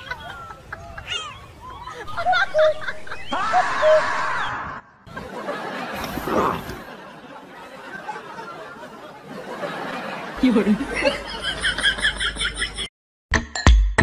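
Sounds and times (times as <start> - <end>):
people laughing: 0.0 - 12.9.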